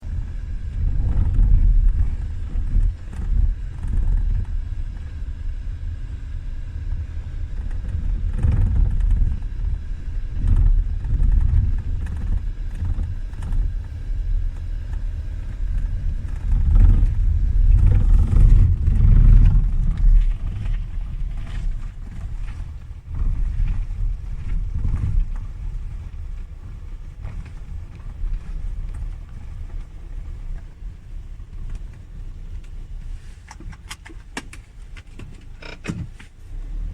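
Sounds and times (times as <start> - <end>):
low road rumble in car: 0.0 - 36.9.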